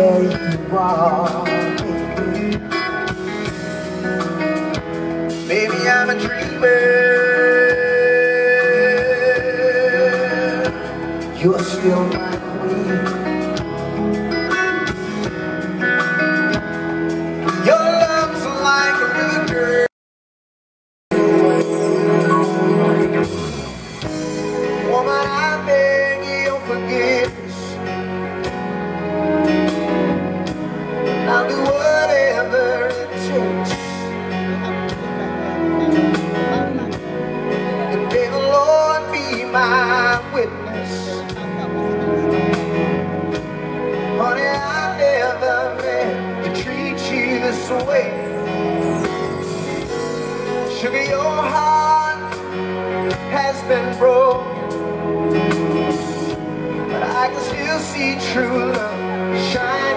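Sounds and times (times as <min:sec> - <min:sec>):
band playing slow groove: 0:00.0 - 0:19.9, 0:21.1 - 0:59.9.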